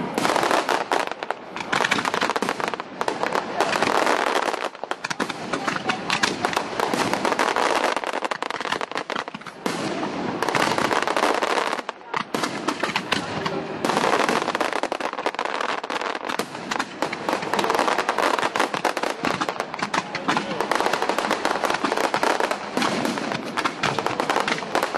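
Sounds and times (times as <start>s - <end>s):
fireworks crackling and popping: 0.0s - 24.9s.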